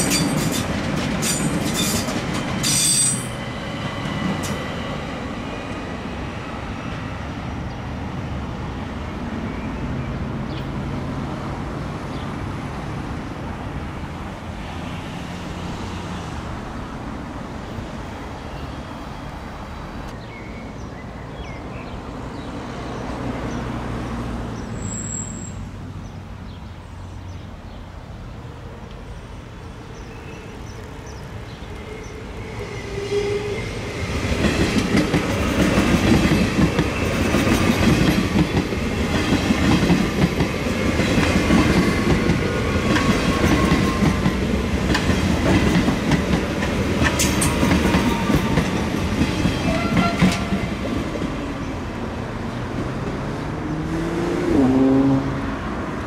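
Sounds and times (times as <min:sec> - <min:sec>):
train passing: 0:00.0 - 0:56.0.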